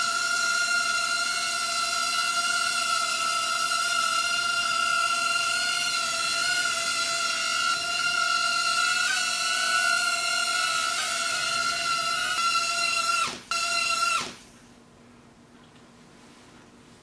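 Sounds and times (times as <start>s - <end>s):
quadcopter motors whining: 0.0s - 14.4s.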